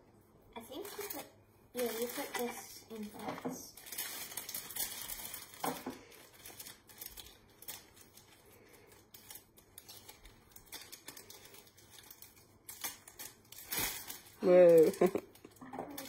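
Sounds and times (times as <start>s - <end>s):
plastic packet crinkling: 0.7s - 16.0s.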